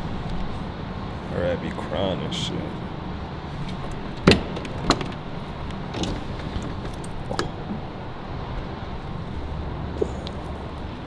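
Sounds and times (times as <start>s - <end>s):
low rumble of parking garage: 0.0s - 11.0s.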